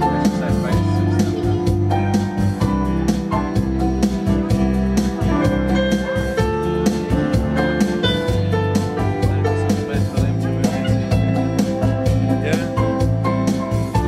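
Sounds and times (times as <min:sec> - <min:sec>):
electronic keyboard music: 0:00.0 - 0:14.0.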